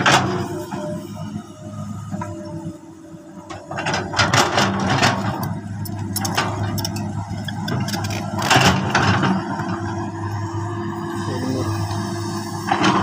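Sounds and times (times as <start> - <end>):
excavator diesel engines running: 0.0 - 13.0.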